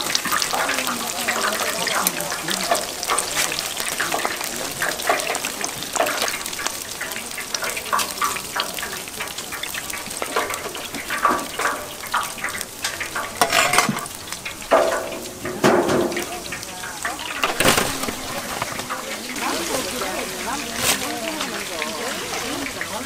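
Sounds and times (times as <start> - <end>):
utensils clicking and knocking: 0.0 - 19.5
food sizzling in hot oil: 0.0 - 23.0.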